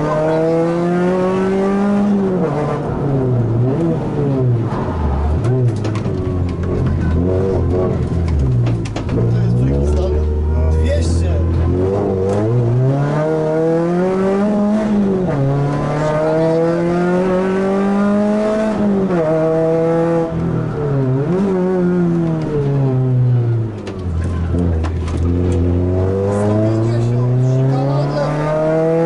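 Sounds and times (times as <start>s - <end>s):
car engine revving hard: 0.0s - 23.8s, 24.4s - 29.0s.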